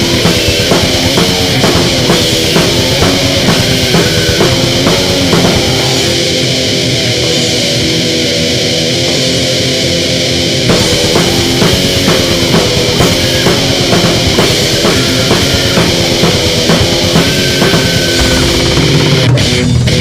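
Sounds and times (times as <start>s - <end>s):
drum kit pounding: 0.0s - 9.2s, 10.6s - 20.0s
distorted electric guitar riff: 0.0s - 20.0s.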